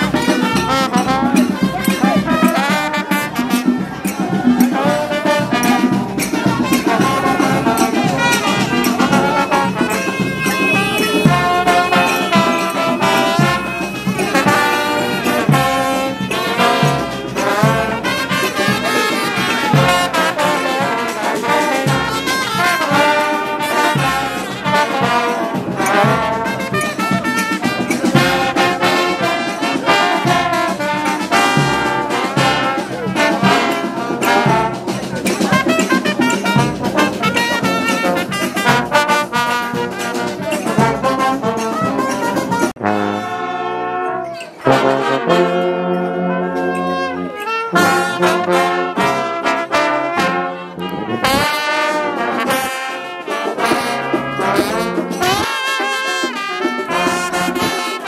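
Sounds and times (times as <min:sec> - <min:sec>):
steady beat: 0:00.0 - 0:42.9, 0:47.7 - 0:58.0
brass band music: 0:00.0 - 0:58.0.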